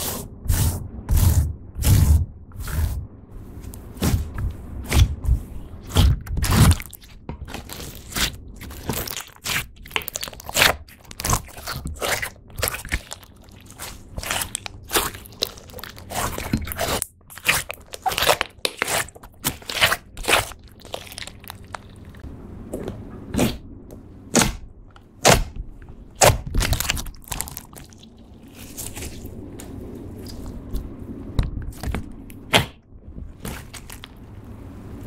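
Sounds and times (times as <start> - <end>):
slime crackling and squelching: 0.0 - 22.2, 26.1 - 34.3.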